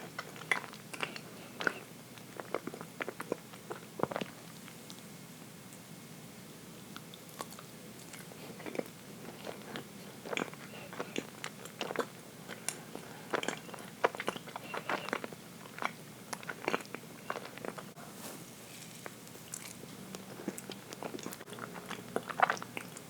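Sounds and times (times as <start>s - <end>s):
person chewing cake: 0.0s - 5.1s, 6.9s - 18.1s, 18.8s - 23.0s.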